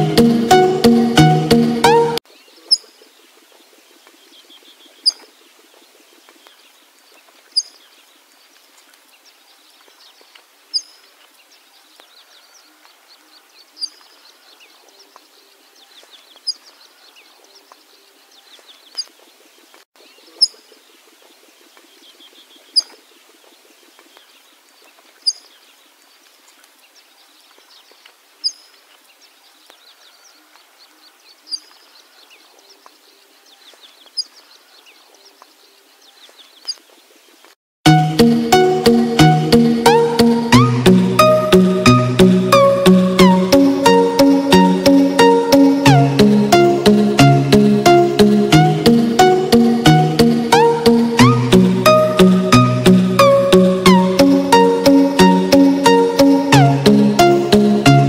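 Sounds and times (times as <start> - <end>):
faint birds chirping: 2.2 - 37.6, 38.4 - 58.0.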